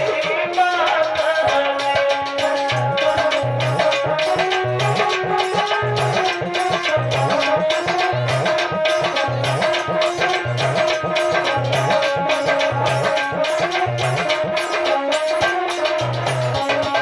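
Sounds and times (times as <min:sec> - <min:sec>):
hand drums: 0:00.0 - 0:17.0
held melody line: 0:00.0 - 0:17.0.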